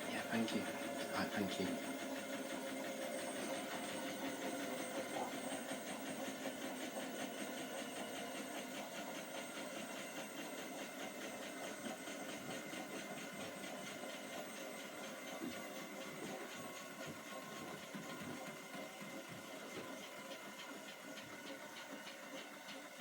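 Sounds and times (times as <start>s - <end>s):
washing machine drum whirring: 0.0s - 23.0s.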